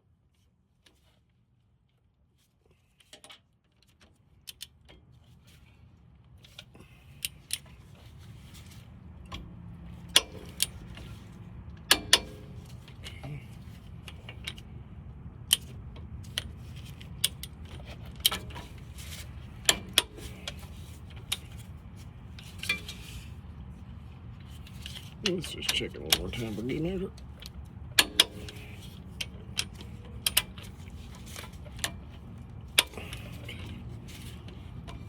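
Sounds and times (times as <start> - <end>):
steady low hum: 4.4 - 35.0.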